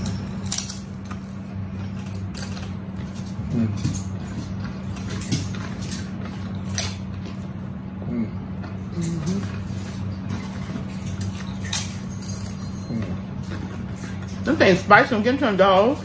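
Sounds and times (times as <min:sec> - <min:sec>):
people chewing food: 0:00.0 - 0:15.1
steady low hum: 0:00.0 - 0:16.0.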